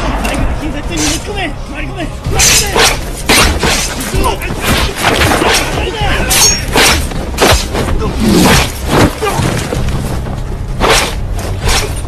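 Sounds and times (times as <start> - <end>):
film music score: 0.0 - 12.0.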